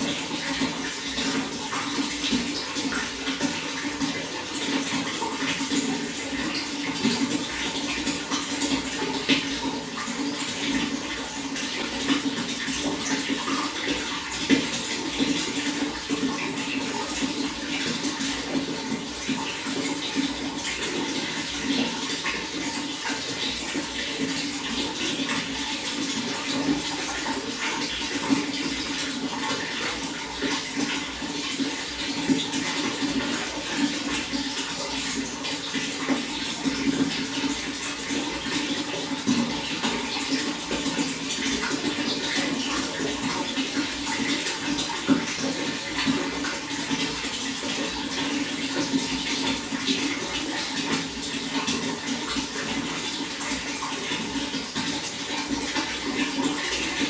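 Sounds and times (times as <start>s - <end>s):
running water splashing: 0.0s - 57.0s.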